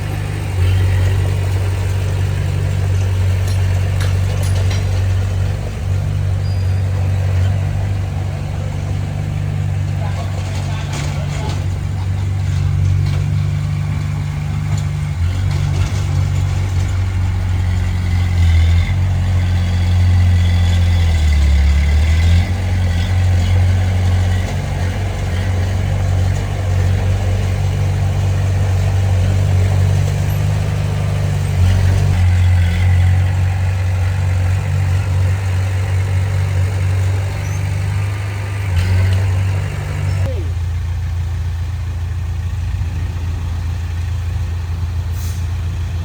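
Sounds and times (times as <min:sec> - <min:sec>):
heavy diesel engine droning: 0:00.0 - 0:46.0.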